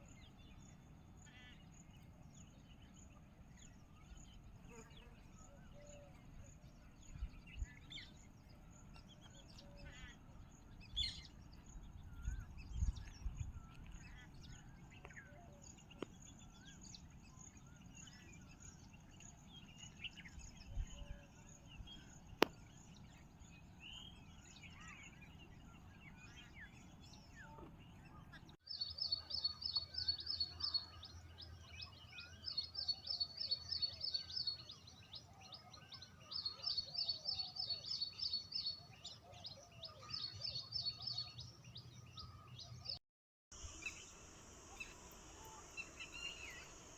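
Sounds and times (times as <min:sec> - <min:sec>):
birds chirping: 0:00.0 - 0:43.0, 0:43.6 - 0:46.9.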